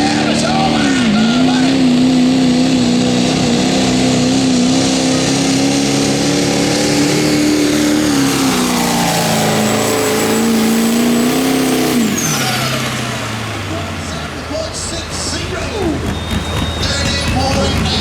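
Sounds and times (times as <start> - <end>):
diesel truck engine revving hard: 0.0 - 18.0.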